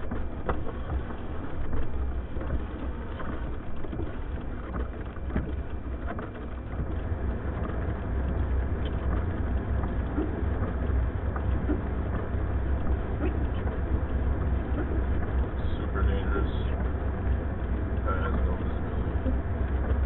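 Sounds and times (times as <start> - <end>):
blizzard wind buffeting a car: 0.0 - 20.0.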